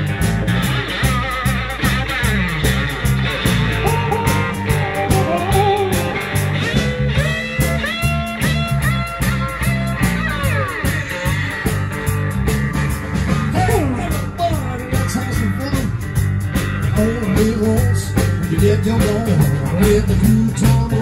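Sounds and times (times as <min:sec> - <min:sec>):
bass line: 0:00.0 - 0:21.0
drums: 0:00.0 - 0:21.0
electric guitar lead lines: 0:00.0 - 0:21.0.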